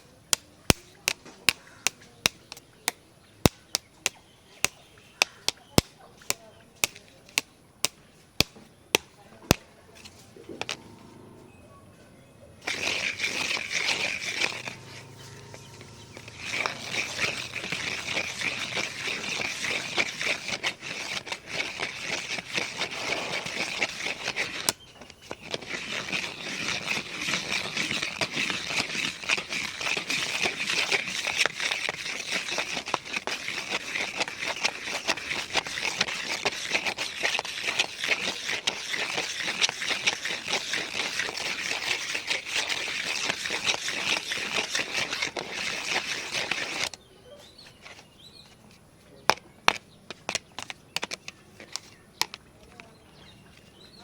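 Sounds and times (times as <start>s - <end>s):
scratching on camera body: 9.4s - 11.6s, 12.2s - 54.0s.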